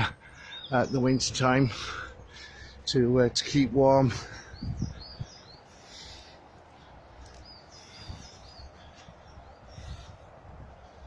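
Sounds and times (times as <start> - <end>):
low outdoor hum: 0.0 - 11.0
small birds chirping: 0.0 - 11.0.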